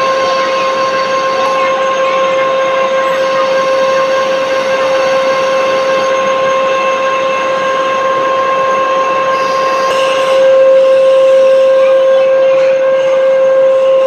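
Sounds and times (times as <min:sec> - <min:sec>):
metal lathe whining: 0:00.0 - 0:14.0.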